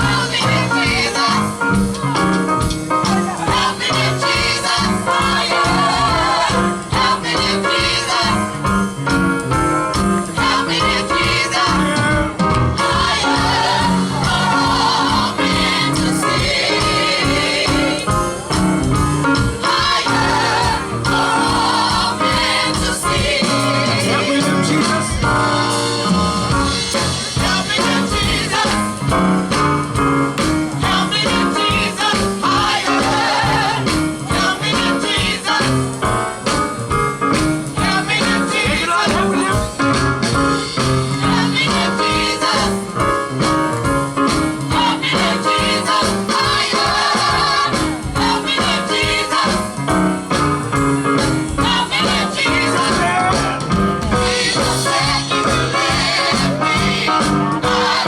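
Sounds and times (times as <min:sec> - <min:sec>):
gospel vocal group singing: 0:00.0 - 0:58.0
instrumental accompaniment with beat: 0:00.0 - 0:58.0.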